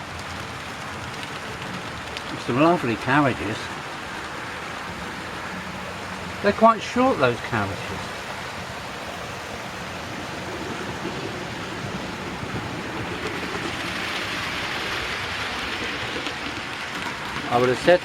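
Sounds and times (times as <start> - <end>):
model train wheels rumbling on rail: 0.0 - 18.0.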